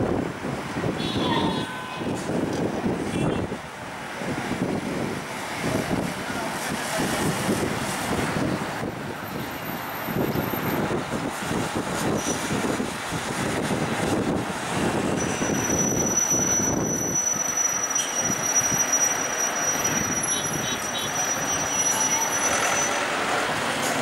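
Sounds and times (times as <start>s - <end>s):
city street traffic: 0.0s - 24.0s.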